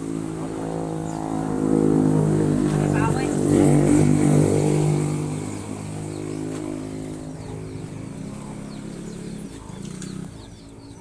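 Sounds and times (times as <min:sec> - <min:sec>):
faint steady engine hum: 0:00.0 - 0:11.0
vehicle engine passing by: 0:00.0 - 0:11.0.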